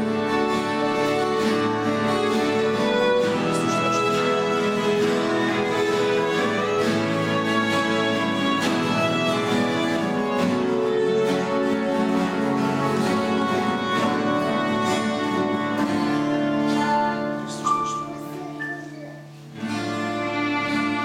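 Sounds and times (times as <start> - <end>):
acoustic guitars strumming: 0.0 - 21.0.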